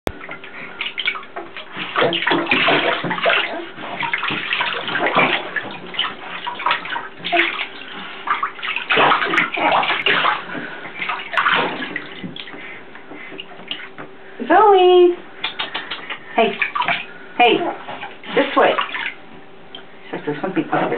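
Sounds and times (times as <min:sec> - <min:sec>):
bath water splashing: 0:00.1 - 0:14.4, 0:15.2 - 0:19.5.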